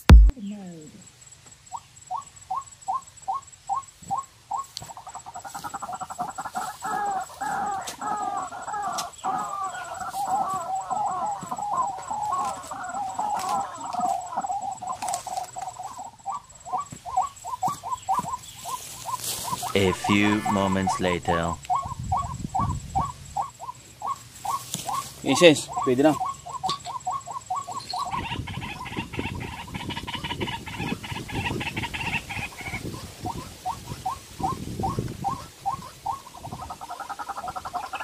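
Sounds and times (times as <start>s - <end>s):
recorded bird clucking calls: 1.7s - 38.0s.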